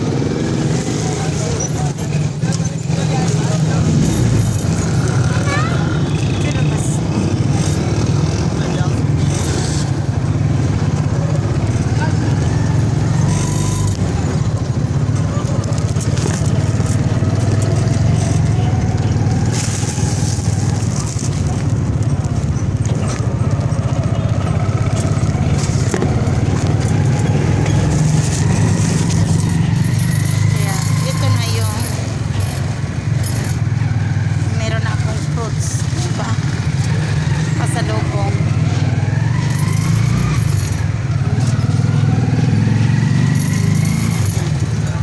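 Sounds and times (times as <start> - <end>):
rickshaw engine running: 0.0 - 45.0.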